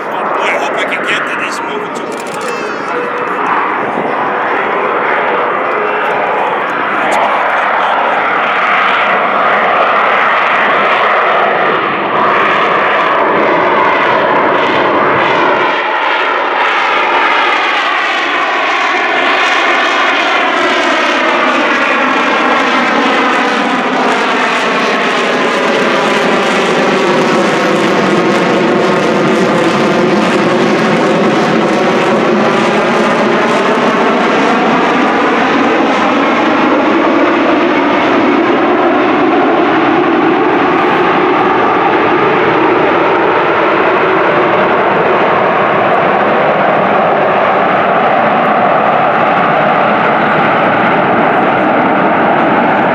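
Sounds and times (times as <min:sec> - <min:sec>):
jet engine roaring: 0:00.0 - 0:52.9.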